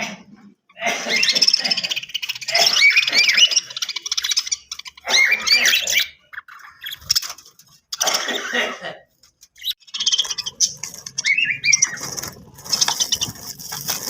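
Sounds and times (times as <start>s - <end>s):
budgerigars chirping and chattering: 0.7s - 8.3s, 9.6s - 14.0s.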